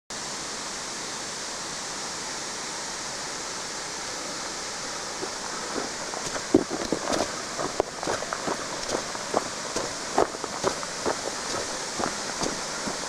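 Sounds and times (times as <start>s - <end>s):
waterfall rushing: 2.1s - 13.0s.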